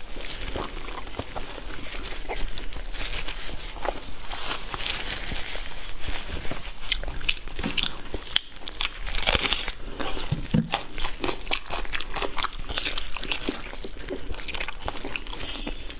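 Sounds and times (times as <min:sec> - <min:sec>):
biting and chewing meat: 0:00.0 - 0:15.9
plastic gloves crinkling: 0:00.0 - 0:15.9.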